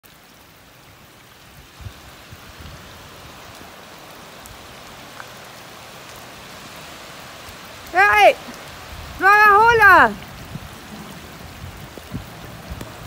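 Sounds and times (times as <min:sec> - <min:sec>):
rain falling on standing water: 0:00.0 - 0:13.0.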